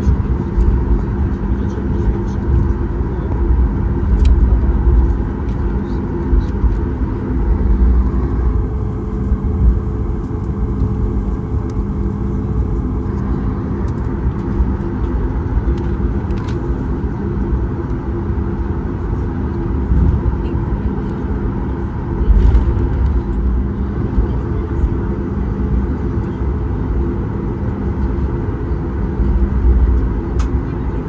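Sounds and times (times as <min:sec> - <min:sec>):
jet engines rumbling low: 0:00.0 - 0:31.0
steady hum tones: 0:00.0 - 0:31.0.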